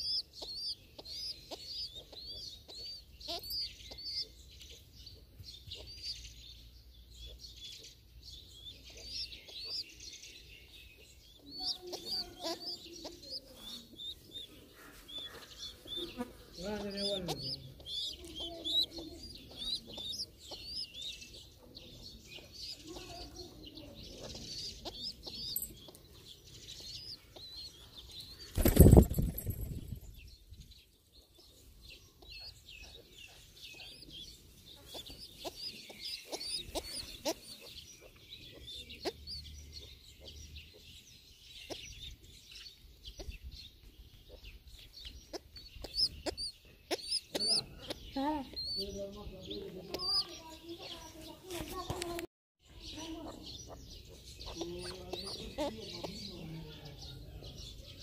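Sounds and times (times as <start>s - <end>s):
lower bird calls: 0.0s - 30.5s, 31.4s - 58.0s
birds chirping: 0.0s - 58.0s.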